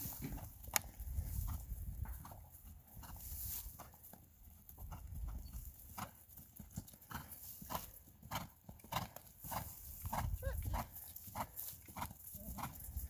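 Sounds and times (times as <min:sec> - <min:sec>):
horse hoofbeats on grass: 0:00.0 - 0:13.0.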